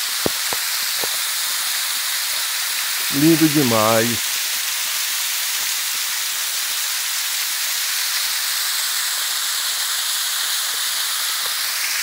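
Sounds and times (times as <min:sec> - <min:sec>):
waterfall hiss: 0:00.0 - 0:12.0.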